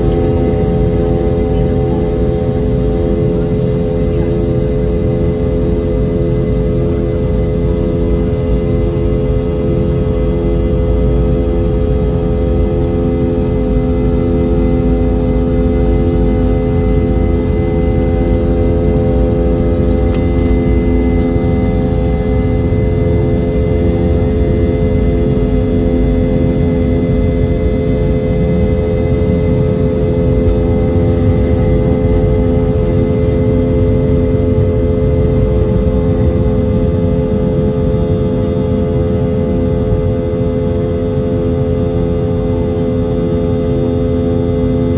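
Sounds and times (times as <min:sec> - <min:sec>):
jet engine drone with high whine: 0:00.0 - 0:44.9.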